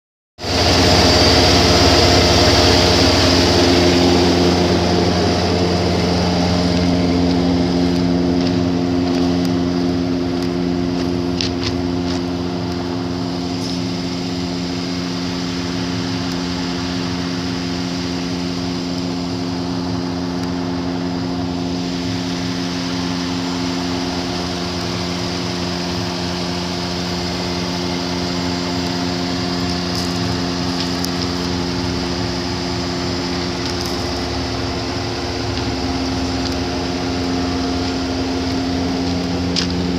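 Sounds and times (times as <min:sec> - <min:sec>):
vehicle engine running: 0:00.4 - 0:39.9.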